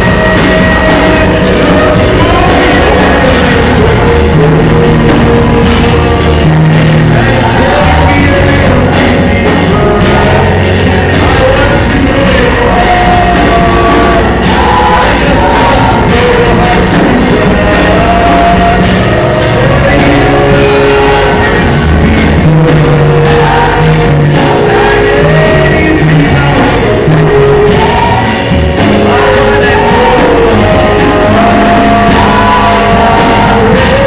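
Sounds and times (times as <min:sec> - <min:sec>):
man singing into microphone: 0:00.0 - 0:34.0
worship music accompaniment: 0:00.0 - 0:34.0.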